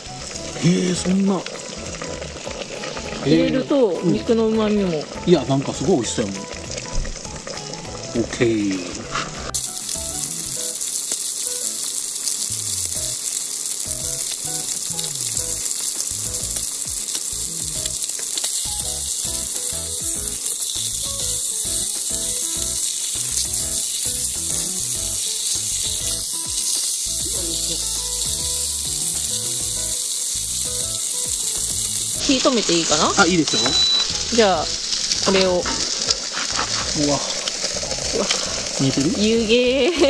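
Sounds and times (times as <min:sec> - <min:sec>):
meat sizzling in a pan: 0:00.0 - 0:40.0.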